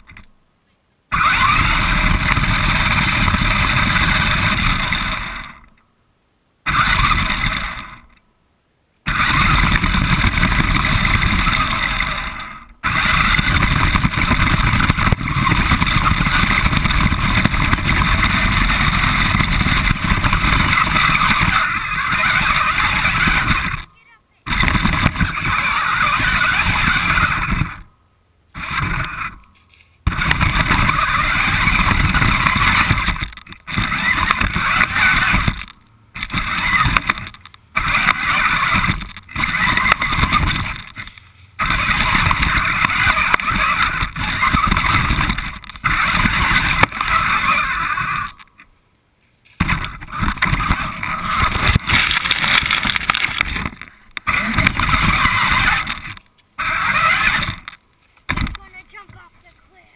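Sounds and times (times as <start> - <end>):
radio-controlled car motor and wheels: 0.0 - 0.4, 1.1 - 5.8, 6.6 - 8.2, 9.1 - 27.9, 28.5 - 48.7, 49.5 - 59.9.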